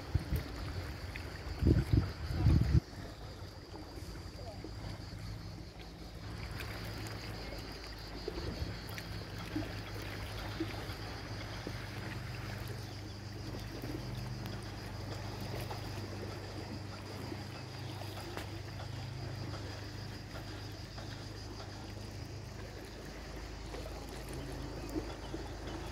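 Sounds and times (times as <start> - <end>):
water splashing and lapping: 0.0 - 25.9.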